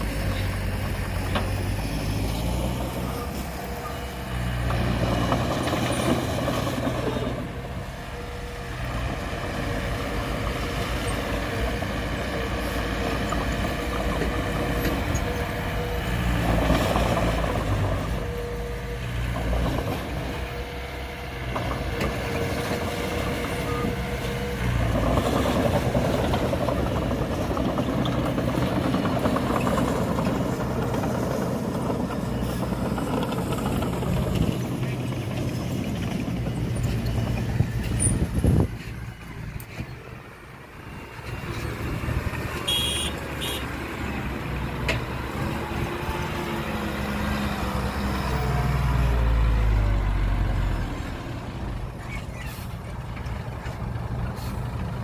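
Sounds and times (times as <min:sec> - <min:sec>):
diesel earthmoving machinery engine: 0:00.0 - 0:55.0.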